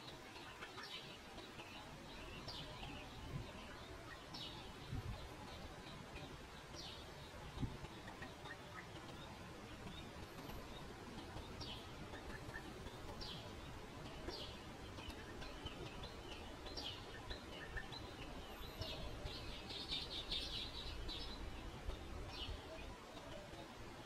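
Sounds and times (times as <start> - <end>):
bird chattering: 0.0 - 23.4
small birds chirping: 0.0 - 24.0.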